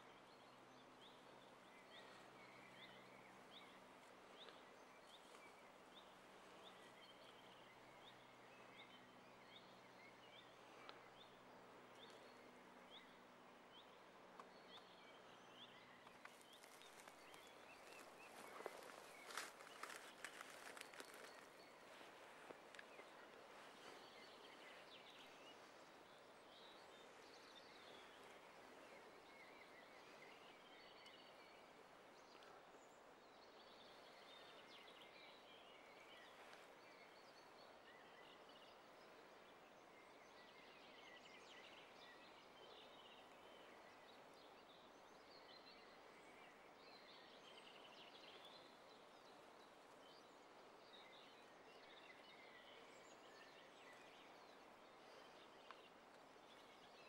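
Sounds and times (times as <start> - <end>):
songbirds chirping and trilling: 0.0 - 57.0
steady low hiss: 0.0 - 57.0.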